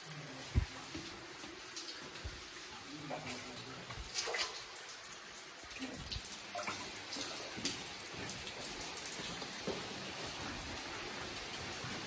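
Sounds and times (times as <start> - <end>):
water drips: 0.0 - 12.0
water trickling: 0.0 - 12.0.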